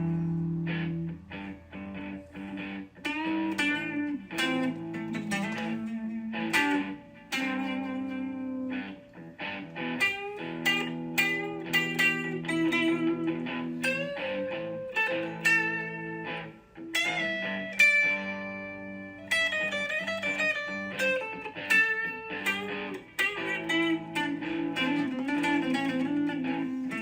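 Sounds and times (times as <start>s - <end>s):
plucked guitar over chords: 0.0s - 27.0s.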